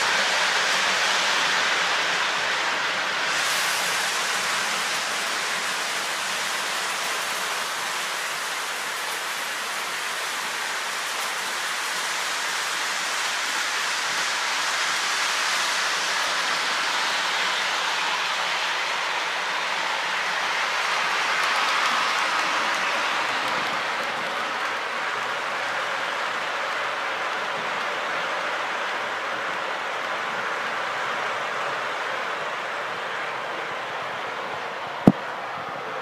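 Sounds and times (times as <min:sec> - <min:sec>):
model train wheels rumbling: 0:00.0 - 0:35.2.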